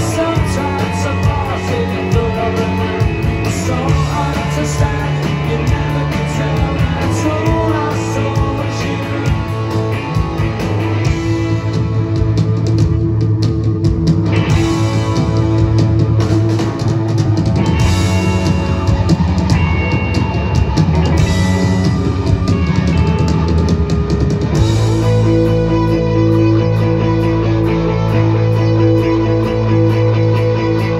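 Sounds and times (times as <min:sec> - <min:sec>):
bass guitar: 0:00.0 - 0:30.9
drum kit: 0:00.0 - 0:30.9
electric guitars: 0:00.0 - 0:30.9.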